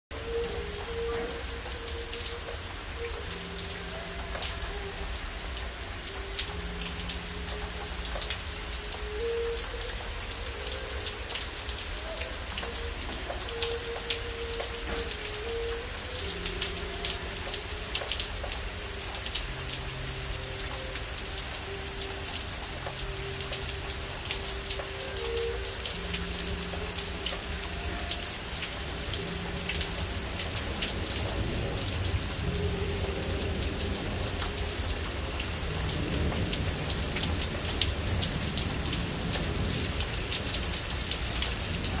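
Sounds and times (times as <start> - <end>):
steady rain falling: 0.0 - 42.0
raindrops tapping: 0.1 - 42.0.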